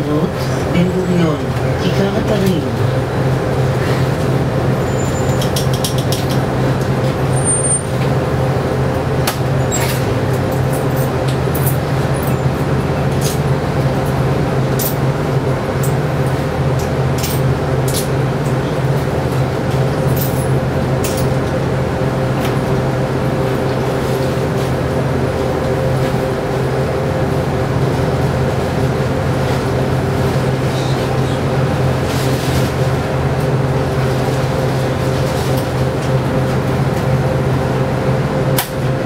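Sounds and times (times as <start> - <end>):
bus engine humming: 0.0 - 39.0.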